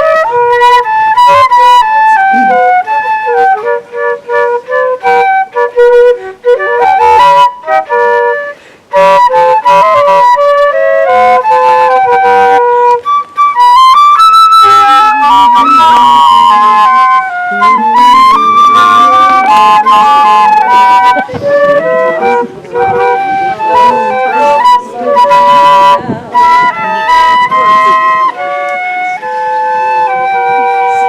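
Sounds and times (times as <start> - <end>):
solo flute playing a carol: 0.0 - 31.0.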